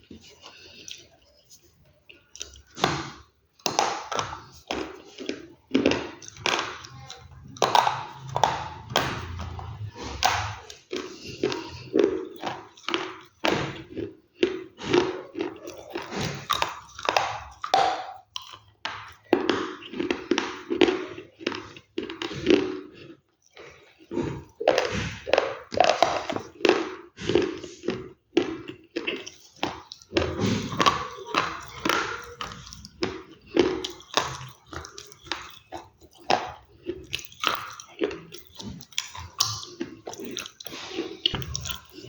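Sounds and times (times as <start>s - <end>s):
crunchy food chewing: 0.0s - 42.0s.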